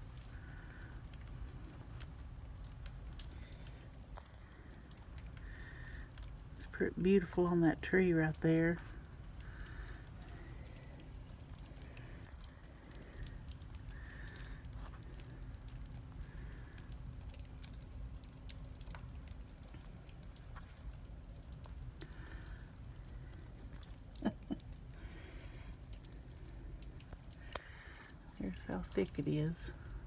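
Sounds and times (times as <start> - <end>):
light ticks: 0.0 - 30.0.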